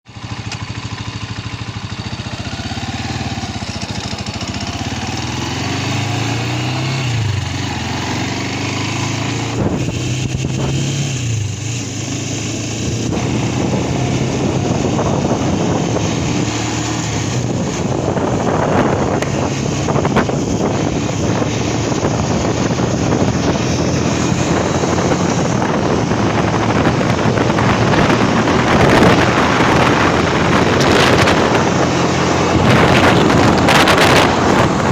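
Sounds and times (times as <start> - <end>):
motorcycle engine running: 0.1 - 34.9
wind rushing over microphone: 1.5 - 34.9.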